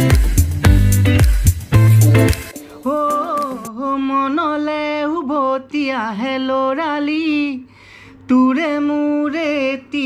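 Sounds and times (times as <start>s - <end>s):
man singing unaccompanied: 0.0s - 7.7s, 8.3s - 10.0s.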